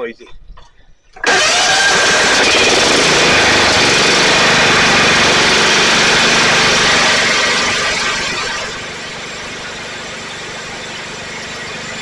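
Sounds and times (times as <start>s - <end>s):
lawn tractor engine running: 1.2s - 12.0s.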